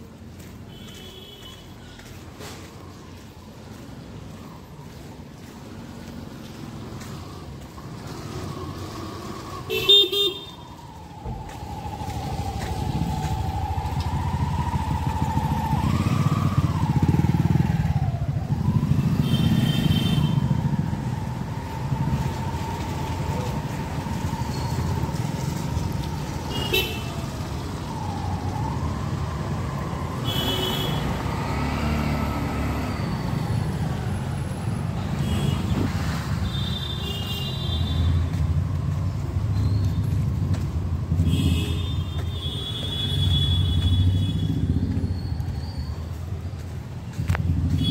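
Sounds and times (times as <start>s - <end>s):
vehicle engines rumbling: 0.0s - 47.9s.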